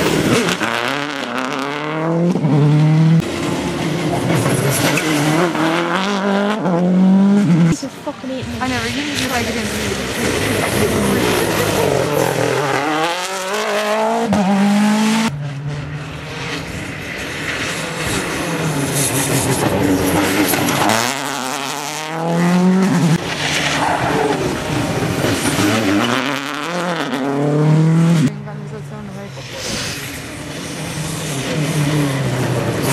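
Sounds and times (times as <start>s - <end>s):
rally car engines at full throttle: 0.0s - 32.9s.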